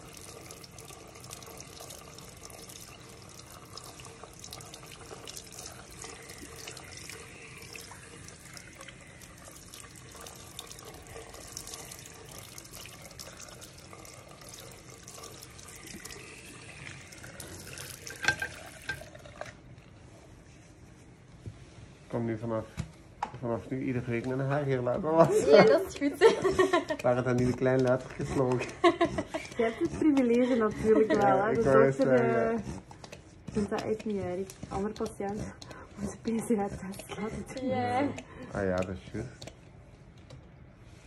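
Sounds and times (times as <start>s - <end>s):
shower sprayer water splashing: 0.0s - 19.6s, 23.8s - 39.4s.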